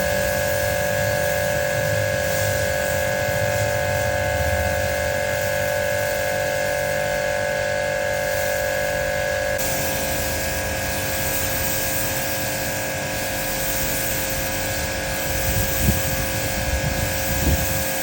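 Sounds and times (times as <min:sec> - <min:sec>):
pressure washer whining: 0:00.0 - 0:18.0.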